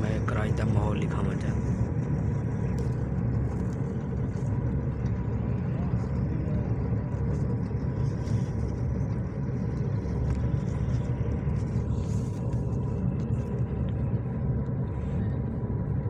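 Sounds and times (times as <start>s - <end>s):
engine and road noise in vehicle: 0.0s - 16.0s.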